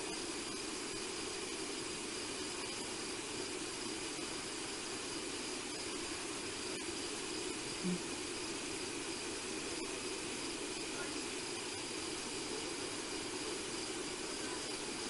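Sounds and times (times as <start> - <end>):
faint insect chirring: 0.0 - 15.0
microphone hiss: 0.0 - 15.0.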